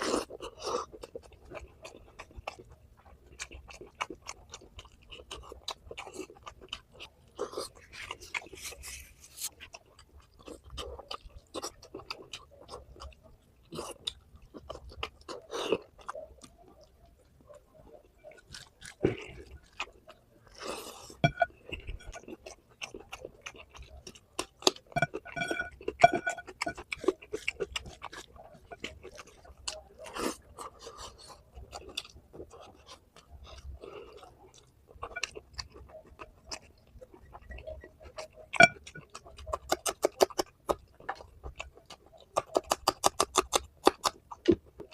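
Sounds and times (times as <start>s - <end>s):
food crunching: 0.0s - 44.9s
person chewing food: 0.0s - 44.9s.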